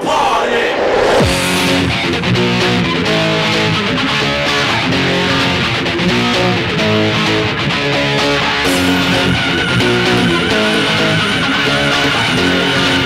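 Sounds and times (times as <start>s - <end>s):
guitar music: 1.2s - 13.0s.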